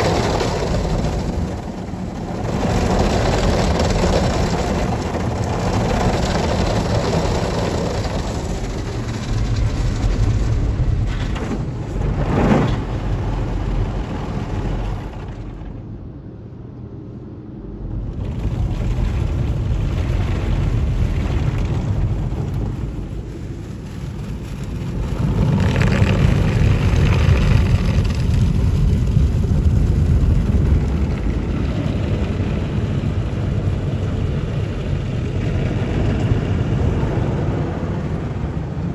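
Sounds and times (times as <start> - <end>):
car wash spray and machinery: 0.0 - 38.9.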